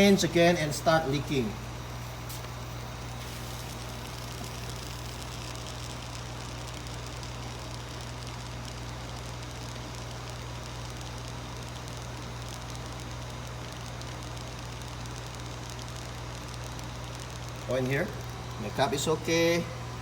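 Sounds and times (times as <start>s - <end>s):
inkjet printer humming and hissing: 0.0s - 20.0s.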